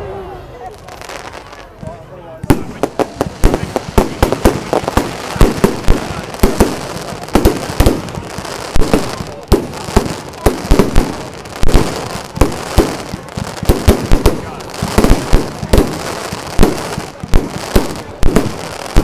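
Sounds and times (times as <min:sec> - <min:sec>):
fireworks banging: 0:00.3 - 0:19.0.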